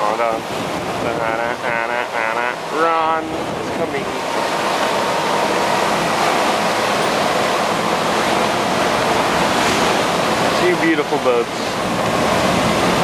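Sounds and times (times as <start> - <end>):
rush of churned water: 0.0 - 13.0.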